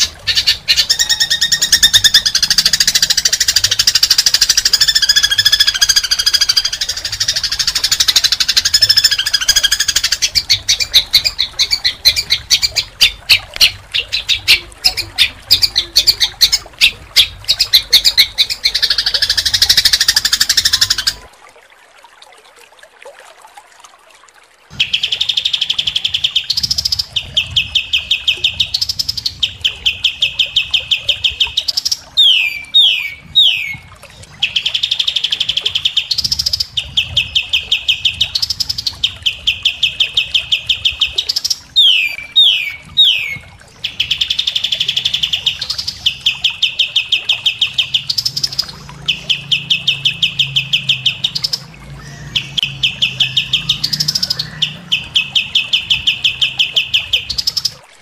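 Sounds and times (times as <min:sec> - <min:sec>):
songbird trills: 0:00.0 - 0:21.2, 0:24.7 - 0:57.8.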